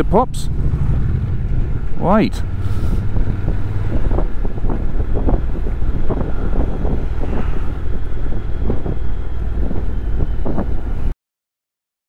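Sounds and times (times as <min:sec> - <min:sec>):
motorcycle engine running: 0:00.0 - 0:11.1
wind buffeting microphone: 0:00.1 - 0:11.1.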